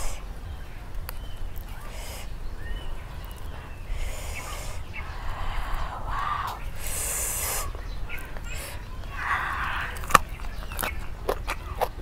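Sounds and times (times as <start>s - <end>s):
faint chirps: 0.0s - 10.9s
steady low rumble: 0.0s - 11.3s.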